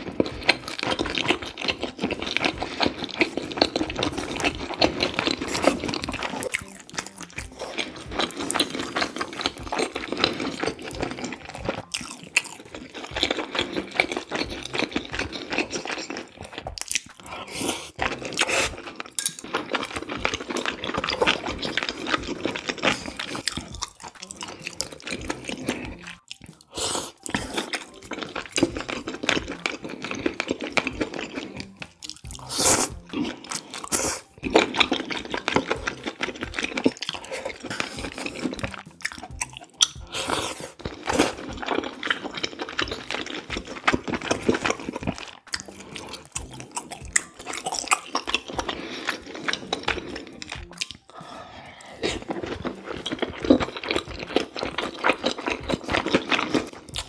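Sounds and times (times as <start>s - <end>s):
slurping noodles: 0.0s - 57.0s
wet chewing: 0.0s - 57.0s.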